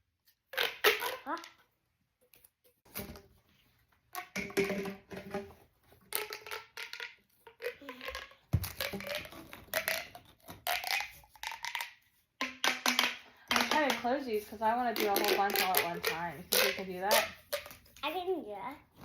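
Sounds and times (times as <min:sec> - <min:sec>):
plastic pop tubes crackling: 0:00.5 - 0:01.7, 0:04.1 - 0:18.3.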